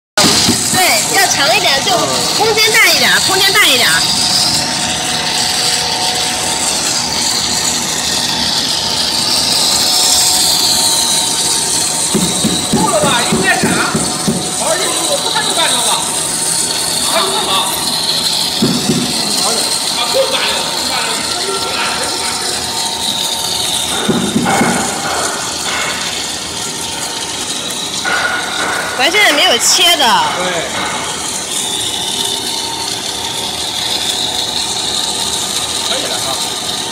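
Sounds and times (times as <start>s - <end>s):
high machine whine: 0.1s - 36.9s
snack extruder machine droning: 0.2s - 36.9s.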